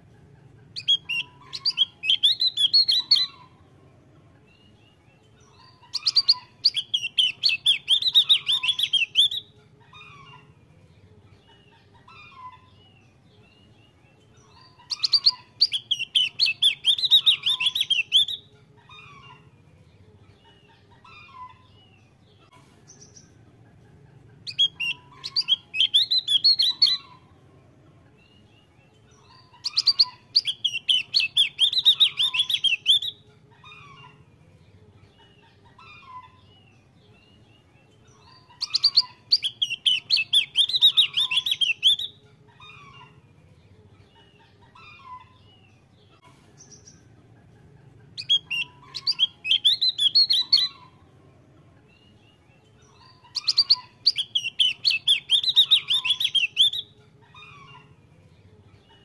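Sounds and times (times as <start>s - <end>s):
bird chattering song: 0.0s - 3.7s, 4.4s - 10.7s, 11.4s - 19.6s, 20.2s - 27.4s, 28.2s - 34.4s, 35.0s - 51.1s, 51.8s - 59.0s.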